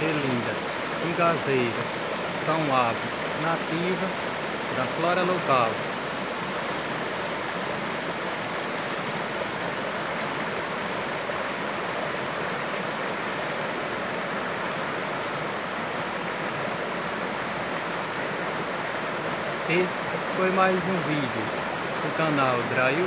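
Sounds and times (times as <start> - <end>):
river rapids rushing over rocks: 0.0 - 23.0.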